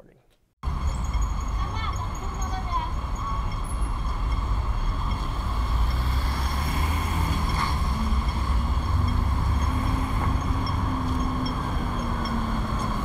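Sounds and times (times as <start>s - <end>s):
traffic rumble: 0.6s - 13.0s.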